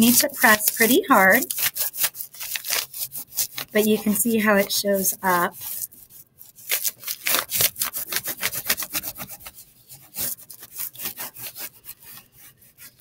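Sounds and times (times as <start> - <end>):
crayon scratching on paper: 0.0 - 13.0.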